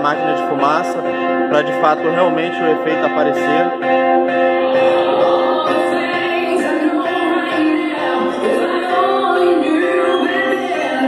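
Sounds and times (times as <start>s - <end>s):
music with singing over speakers: 0.0s - 11.0s.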